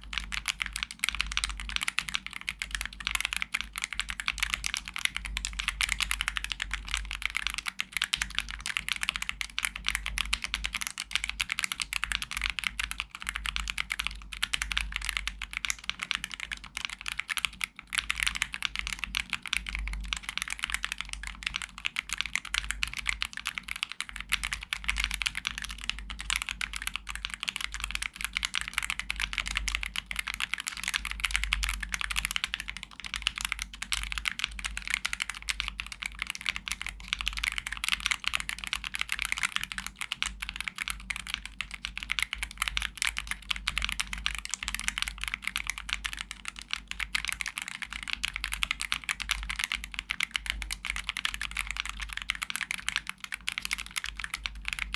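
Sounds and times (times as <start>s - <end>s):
mechanical keyboard typing: 0.0s - 54.9s.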